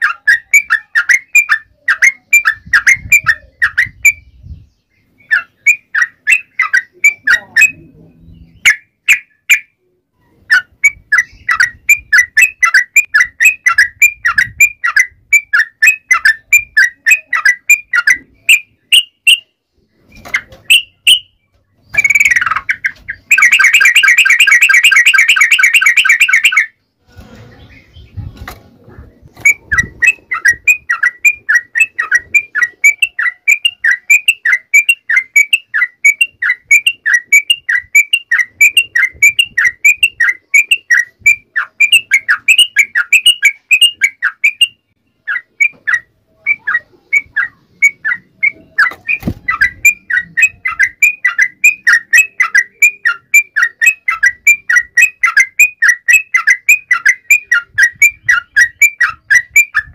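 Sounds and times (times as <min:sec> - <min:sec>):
bird chirping: 0:00.0 - 0:59.9.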